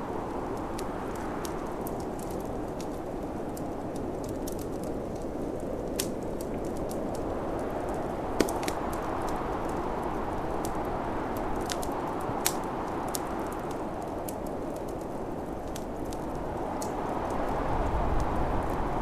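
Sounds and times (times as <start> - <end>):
rushing snowstorm wind: 0.0 - 19.0
wood fire crackling: 0.0 - 19.0
fire pops: 0.2 - 19.0.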